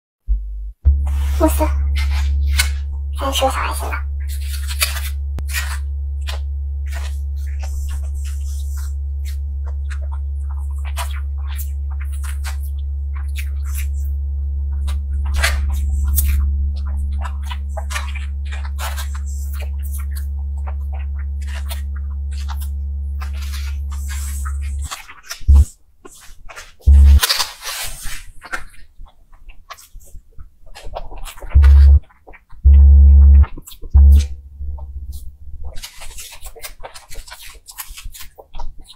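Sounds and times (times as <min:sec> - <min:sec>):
low electrical hum: 0:00.3 - 0:26.1, 0:26.8 - 0:27.5, 0:31.3 - 0:37.0.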